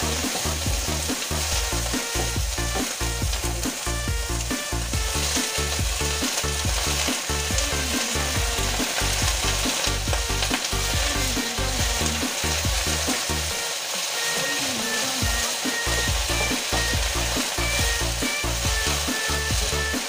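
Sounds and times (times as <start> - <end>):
food sizzling in a wok: 0.0 - 20.0
rhythmic background music: 0.0 - 20.0
wooden spatula stirring: 0.0 - 20.0.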